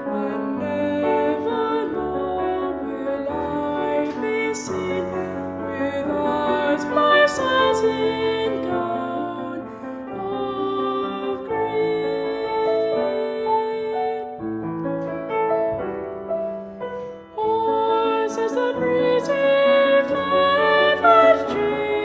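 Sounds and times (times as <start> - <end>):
boy singing classical song: 0.0 - 14.4, 17.4 - 22.0
piano accompaniment: 0.0 - 22.0.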